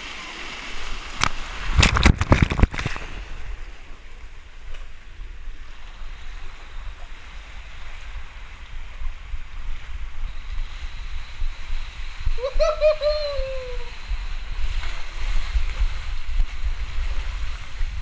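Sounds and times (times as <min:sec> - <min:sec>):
rushing water: 0:00.0 - 0:18.0
water splashing on camera: 0:00.0 - 0:18.0
wind buffeting microphone: 0:00.5 - 0:18.0.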